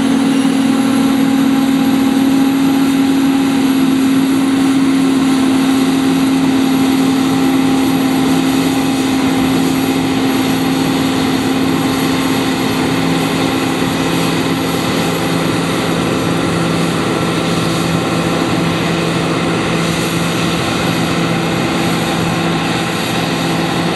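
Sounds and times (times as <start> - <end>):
combine harvester drone: 0.0 - 23.9
machine whine: 0.0 - 23.9.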